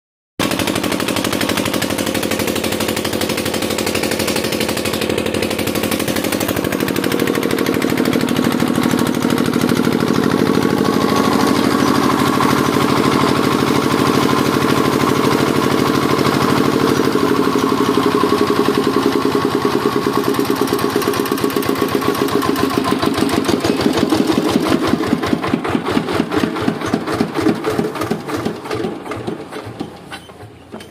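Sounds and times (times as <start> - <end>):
diesel generator engine running: 0.4 - 30.9.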